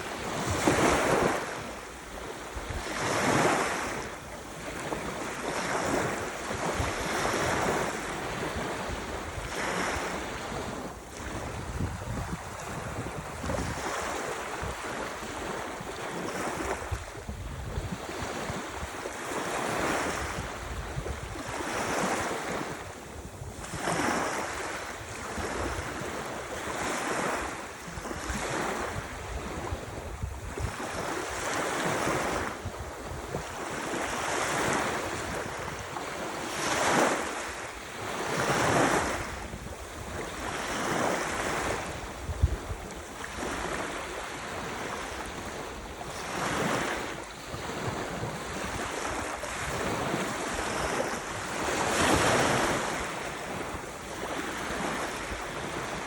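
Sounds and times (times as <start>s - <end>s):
small waves breaking: 0.0s - 56.0s
wind buffeting microphone: 0.0s - 56.0s.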